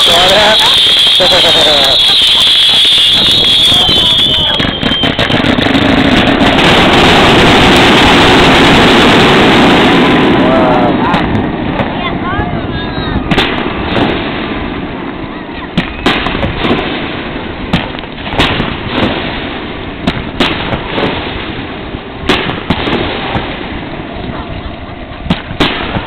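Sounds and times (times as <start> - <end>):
fireworks bangs: 0.0 - 26.0
steady low rumble: 2.6 - 26.0.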